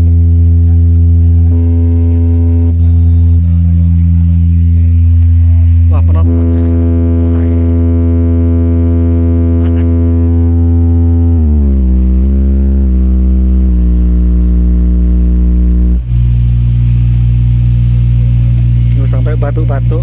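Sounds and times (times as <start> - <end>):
deep synth bass drone: 0.0 - 20.0.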